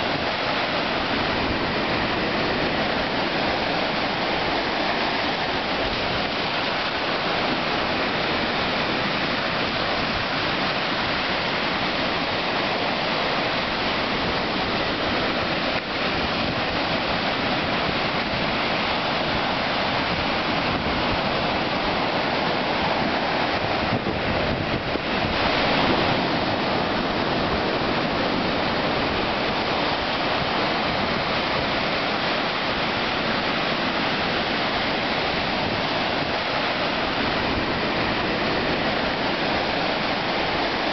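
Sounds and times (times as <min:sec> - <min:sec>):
ocean surf breaking on beach: 0:00.0 - 0:40.9.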